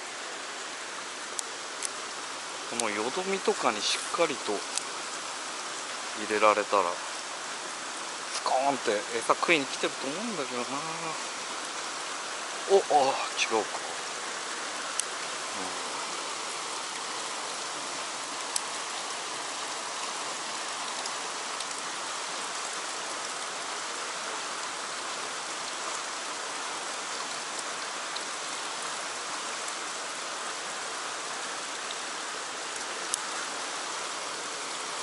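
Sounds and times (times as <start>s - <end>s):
stream water rushing over rocks: 0.0s - 35.0s.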